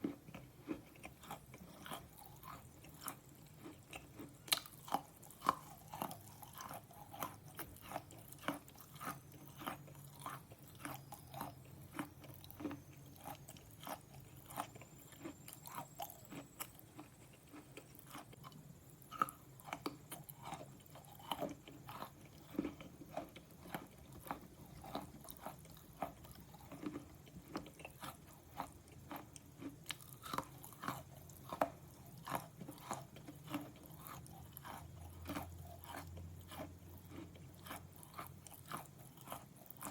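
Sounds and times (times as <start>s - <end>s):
slate pencil being chewed: 0.0s - 39.9s.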